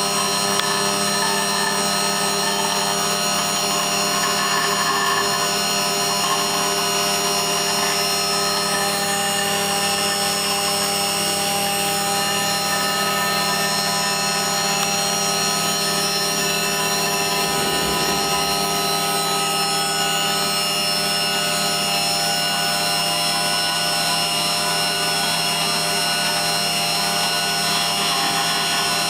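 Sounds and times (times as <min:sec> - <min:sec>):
mill machining: 0:00.0 - 0:29.0
whining machine tones: 0:00.0 - 0:29.0.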